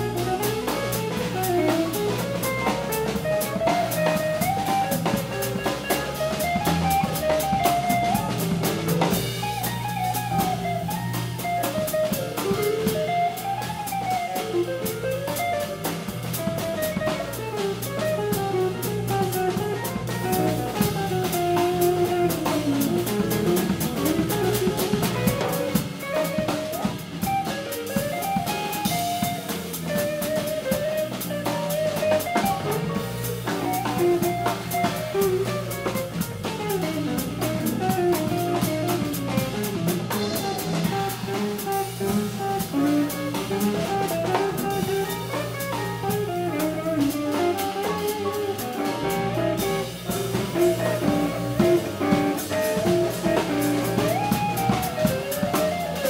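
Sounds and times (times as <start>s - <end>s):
electric guitar lead line: 0.0s - 56.0s
jazz fusion band playing: 0.0s - 56.0s.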